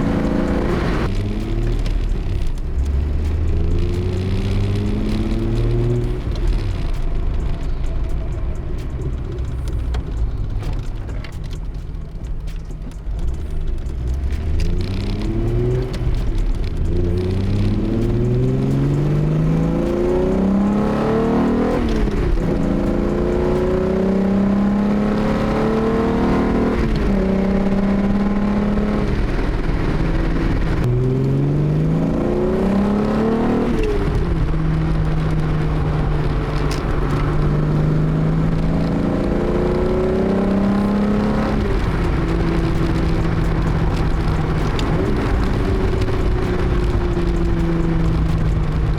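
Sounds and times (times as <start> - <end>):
car engine revving and shifting: 0.0 - 48.9.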